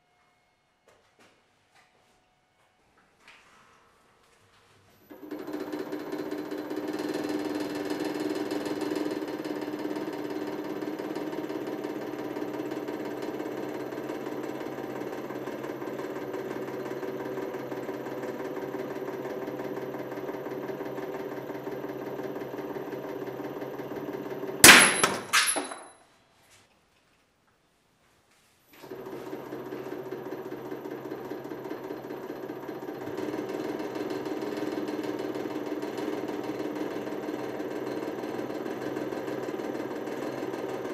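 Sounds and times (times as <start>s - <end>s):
hydraulic pump motor running: 5.1s - 25.8s, 28.8s - 40.9s.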